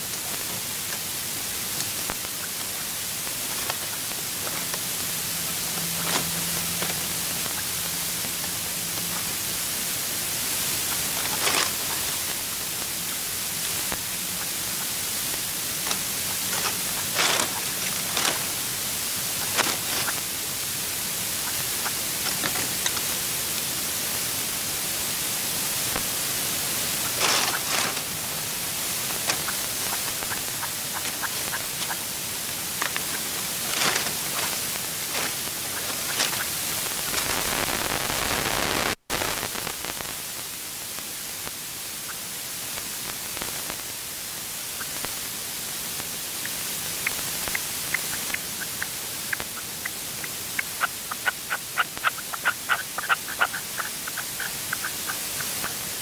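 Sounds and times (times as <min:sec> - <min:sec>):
loud outdoor hiss: 0:00.0 - 0:56.0.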